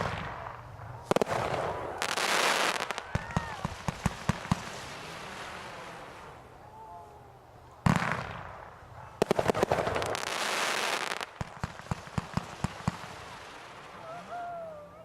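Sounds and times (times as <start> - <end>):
firework burst: 0.0 - 6.6, 7.8 - 14.7
firework crackling: 0.0 - 15.0.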